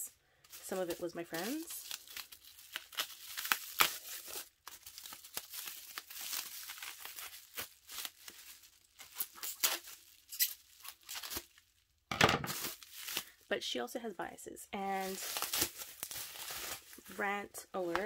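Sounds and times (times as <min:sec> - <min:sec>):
bubble wrap crinkling: 0:00.0 - 0:13.6, 0:14.8 - 0:18.0.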